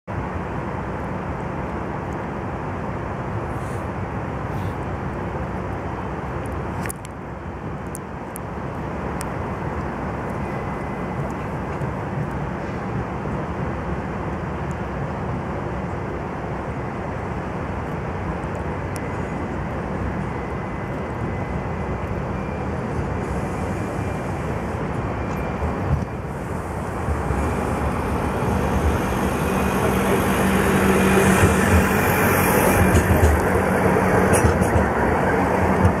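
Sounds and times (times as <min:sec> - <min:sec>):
city traffic noise: 0:00.1 - 0:36.0
electric tram passing: 0:00.1 - 0:36.0.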